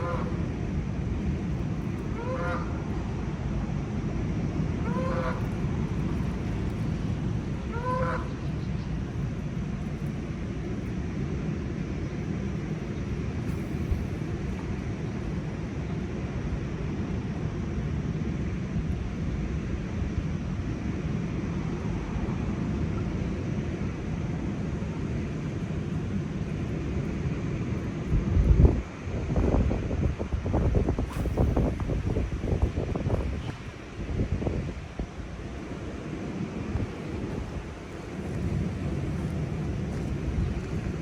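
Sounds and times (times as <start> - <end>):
low outdoor rumbling: 0.0 - 41.0.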